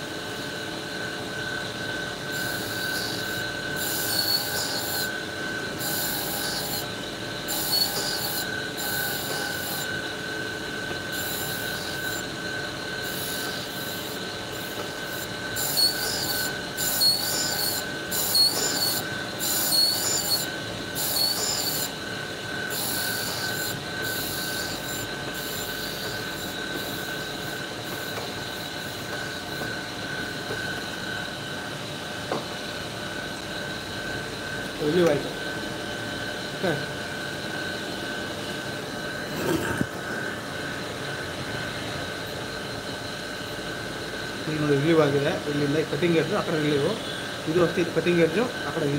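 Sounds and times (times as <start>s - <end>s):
grinder wheel whining: 0.1s - 31.7s, 32.3s - 41.4s.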